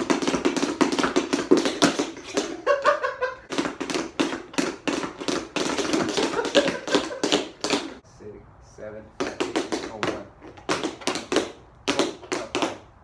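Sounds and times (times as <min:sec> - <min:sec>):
tap shoes on hard floor: 0:00.0 - 0:08.0, 0:09.2 - 0:12.9.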